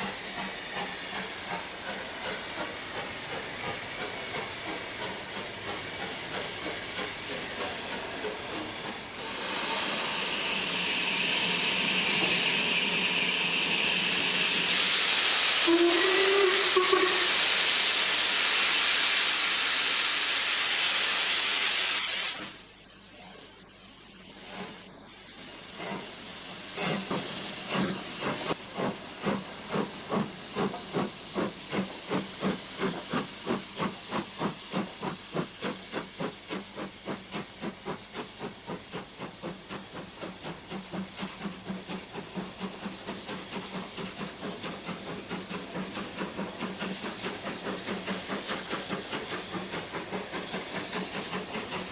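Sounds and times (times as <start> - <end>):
steam hissing: 0.0 - 51.9
steam locomotive chuffing: 0.0 - 51.9.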